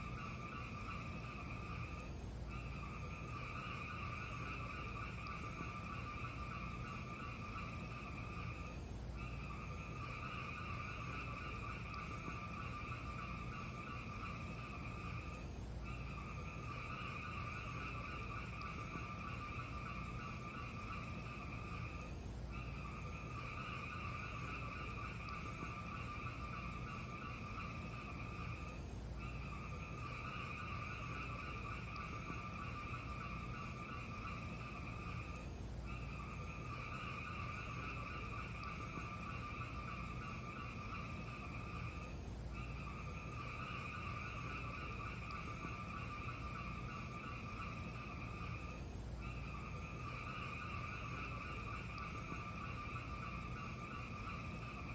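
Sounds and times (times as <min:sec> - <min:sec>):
faint fire crackles: 0:00.0 - 0:54.9.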